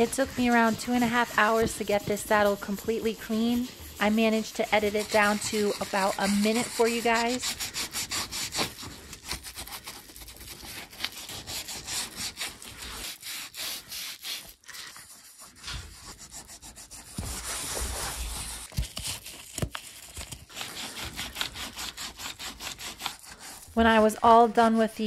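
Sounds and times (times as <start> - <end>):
wet cloth scrubbing leather: 0.0 - 18.7, 20.5 - 24.0.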